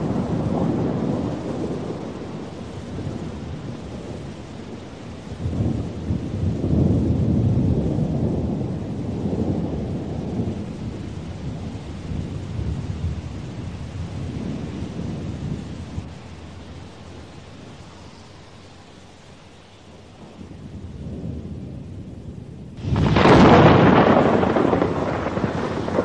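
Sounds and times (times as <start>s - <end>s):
rolling thunder: 0.0s - 18.8s, 19.9s - 26.0s
steady rain: 0.0s - 26.0s.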